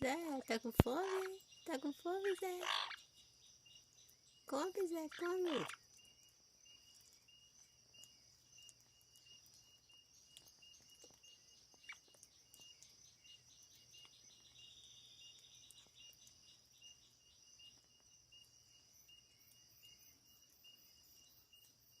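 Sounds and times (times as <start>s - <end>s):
faint insects chirping: 0.0s - 22.0s.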